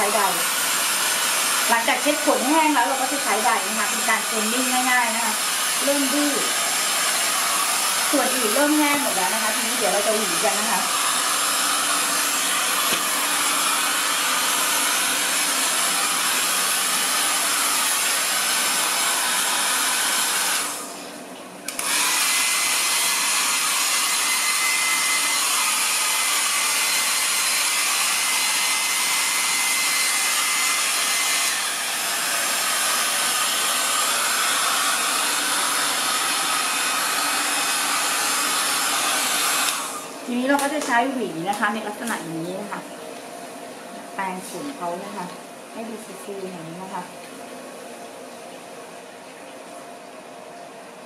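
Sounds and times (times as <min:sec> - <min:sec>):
hair dryer blowing: 0:00.0 - 0:21.1, 0:21.7 - 0:47.1.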